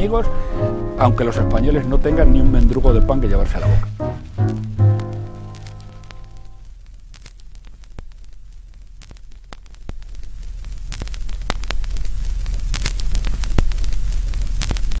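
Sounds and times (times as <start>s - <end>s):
low hum and hiss: 0.0s - 15.0s
record crackles and pops: 0.0s - 15.0s.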